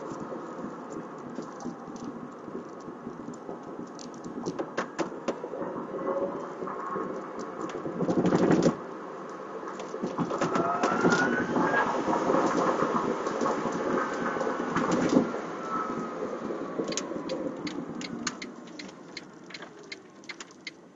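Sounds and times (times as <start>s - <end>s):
road and tyre noise: 0.0s - 20.9s.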